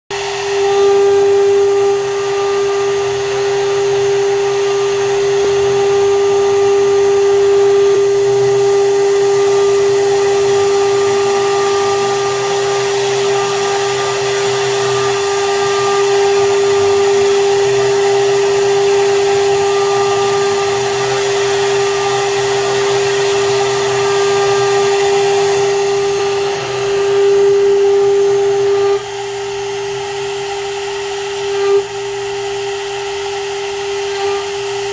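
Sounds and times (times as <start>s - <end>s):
hiss of metal cutting: 0.1s - 34.9s
milling spindle whine: 0.1s - 34.9s.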